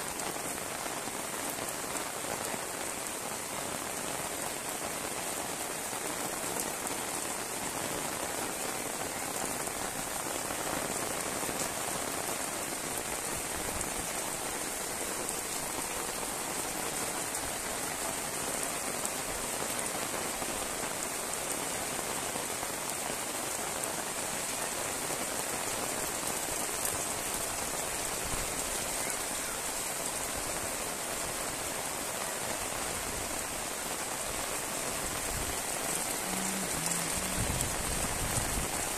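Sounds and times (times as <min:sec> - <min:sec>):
heavy rain on foliage: 0:00.0 - 0:38.9.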